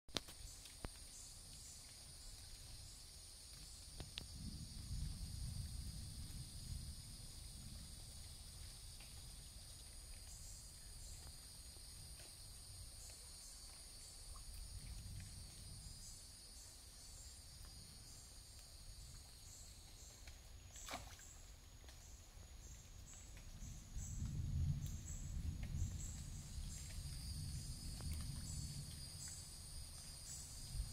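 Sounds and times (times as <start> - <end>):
high-pitched insect chorus: 0.2 - 30.9.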